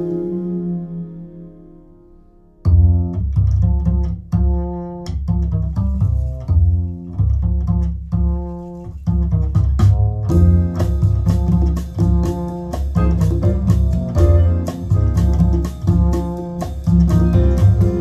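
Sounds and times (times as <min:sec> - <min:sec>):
deep bass line: 0:00.0 - 0:18.0.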